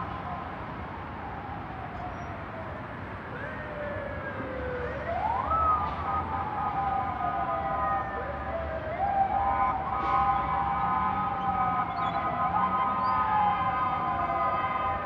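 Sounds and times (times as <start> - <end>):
emergency siren wailing: 0.0 - 15.0
low rumble of city traffic: 0.0 - 15.0.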